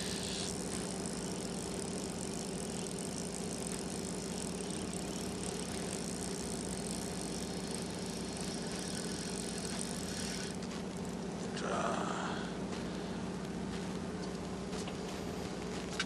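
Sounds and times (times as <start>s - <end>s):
boat engine idling: 0.0s - 15.8s.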